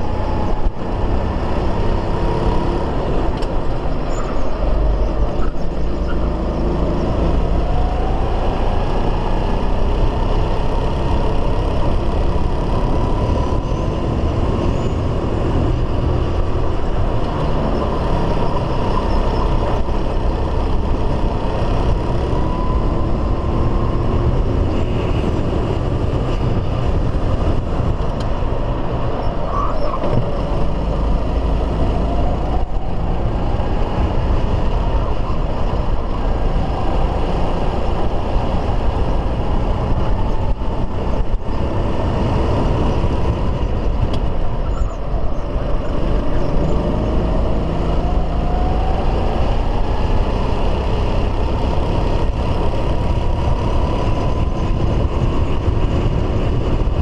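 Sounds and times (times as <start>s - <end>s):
heavy low rumble: 0.0s - 57.0s.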